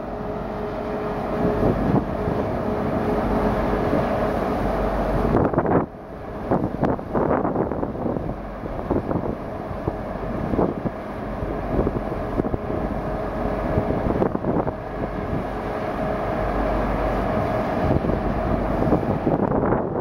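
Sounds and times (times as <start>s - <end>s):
boat diesel engines running: 0.0s - 20.0s
wind buffeting microphone: 0.0s - 20.0s.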